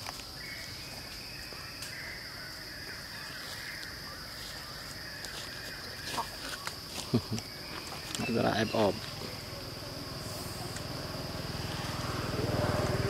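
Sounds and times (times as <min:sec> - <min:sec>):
high-pitched insect drone: 0:00.0 - 0:13.0
low insect buzz: 0:00.0 - 0:13.0.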